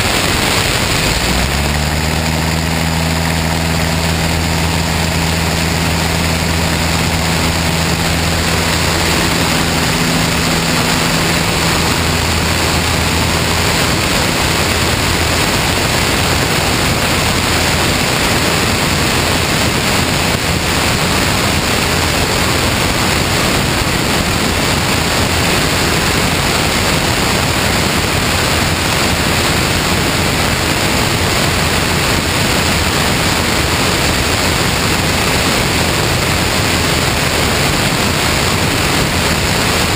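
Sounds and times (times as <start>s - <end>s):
light aircraft engine drone: 0.0s - 39.9s
wind rushing on microphone: 0.0s - 39.9s.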